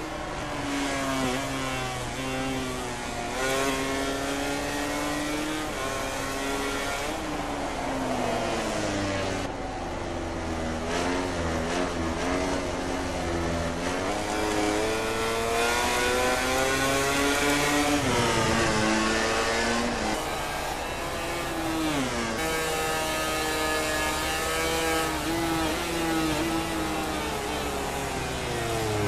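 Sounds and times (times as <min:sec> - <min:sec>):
racing motorcycle engines: 0:00.0 - 0:29.0.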